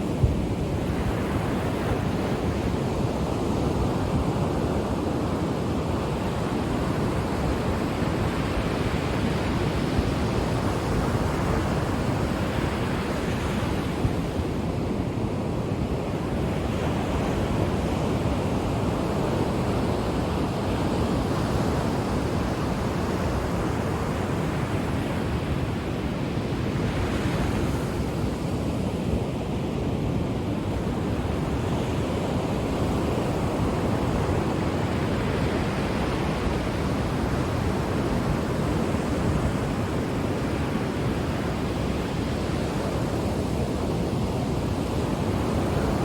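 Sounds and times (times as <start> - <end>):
ocean waves breaking on beach: 0.0 - 46.0.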